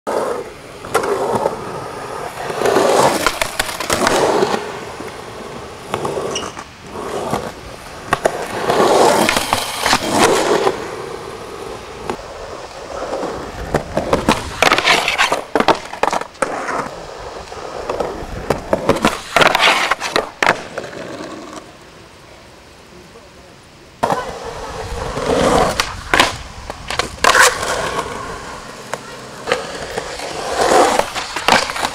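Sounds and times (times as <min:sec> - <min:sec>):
skateboard popping and landing: 0:00.1 - 0:21.8, 0:24.0 - 0:31.9
skateboard wheels rolling: 0:00.1 - 0:31.9.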